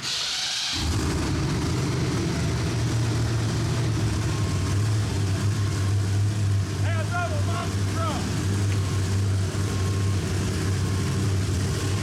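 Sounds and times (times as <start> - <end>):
truck engine starting and running: 0.0 - 12.0.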